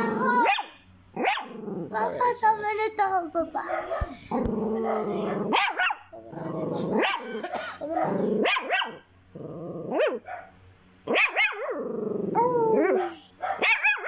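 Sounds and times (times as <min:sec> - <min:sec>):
small dog barking and whining: 0:00.0 - 0:02.3, 0:03.6 - 0:09.1, 0:09.9 - 0:14.0.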